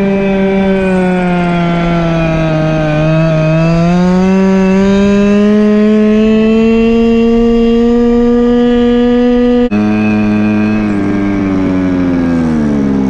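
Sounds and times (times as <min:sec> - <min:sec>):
scooter two-stroke engine running: 0:00.0 - 0:13.0.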